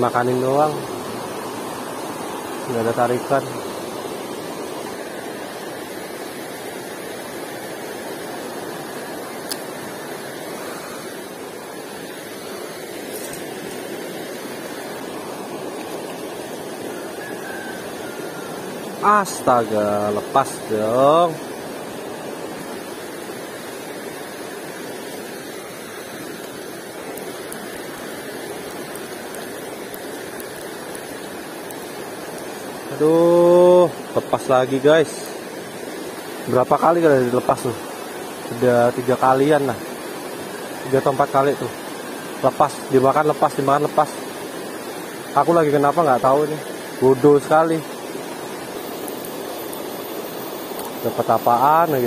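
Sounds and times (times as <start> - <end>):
river rushing over rapids: 0.0 - 52.0.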